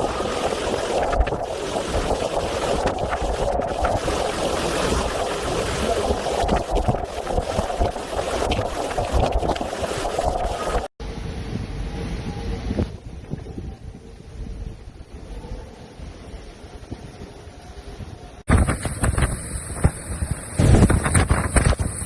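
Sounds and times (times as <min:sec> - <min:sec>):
strong wind rushing: 0:00.0 - 0:22.0
wind buffeting microphone: 0:00.0 - 0:22.0.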